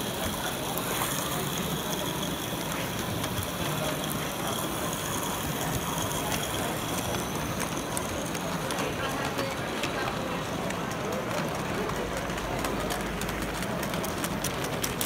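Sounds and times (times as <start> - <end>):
clicking wheels: 0.0 - 15.0.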